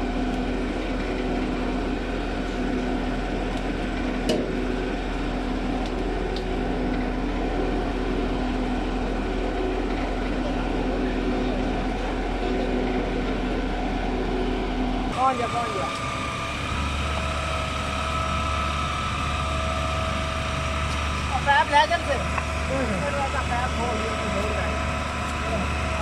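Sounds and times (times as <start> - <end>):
concrete pump engine humming: 0.0 - 26.0.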